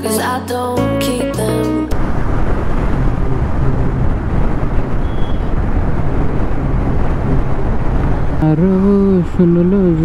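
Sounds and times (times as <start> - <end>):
road noise: 1.9 - 10.0
wind rush on microphone: 1.9 - 10.0.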